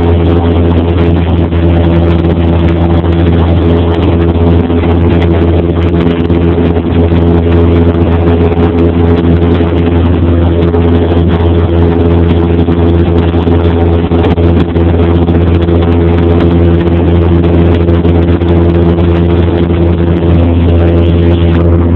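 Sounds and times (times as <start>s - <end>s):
light aircraft engine drone: 0.0s - 21.9s.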